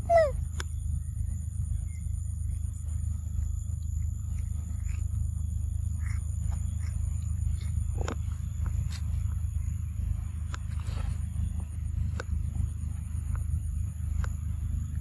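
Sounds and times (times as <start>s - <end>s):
high-pitched whine: 0.0s - 15.0s
low rumble: 0.0s - 15.0s.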